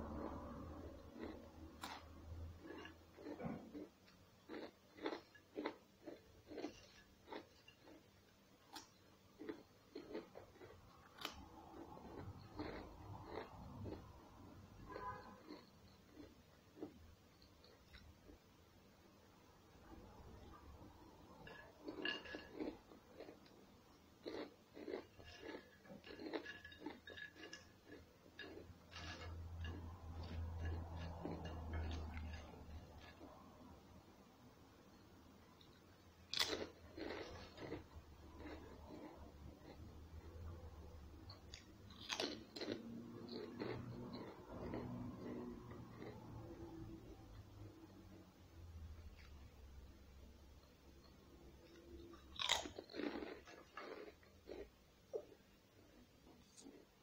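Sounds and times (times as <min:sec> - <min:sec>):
chewing crunchy chips: 0:00.0 - 0:18.1, 0:19.8 - 0:23.6, 0:24.2 - 0:33.5, 0:35.6 - 0:48.2, 0:51.1 - 0:55.3.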